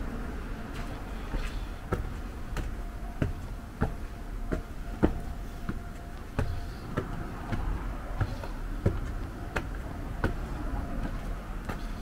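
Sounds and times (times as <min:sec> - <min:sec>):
footsteps on concrete stairs: 0:00.7 - 0:12.0.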